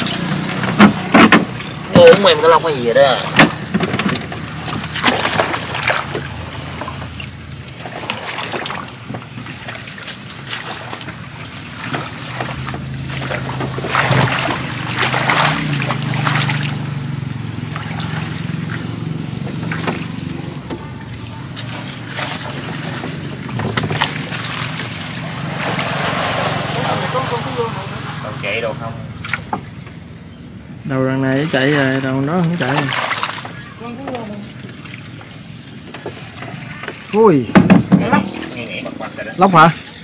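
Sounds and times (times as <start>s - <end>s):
small boat engine running: 0.0s - 37.3s
water sloshing and splashing: 0.0s - 40.0s.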